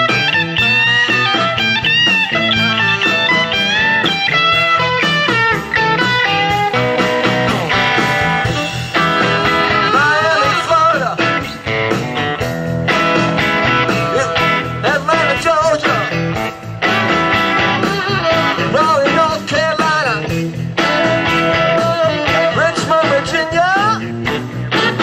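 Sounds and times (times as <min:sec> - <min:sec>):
blues-rock band playing: 0:00.0 - 0:25.0
electric guitar lead: 0:00.0 - 0:25.0.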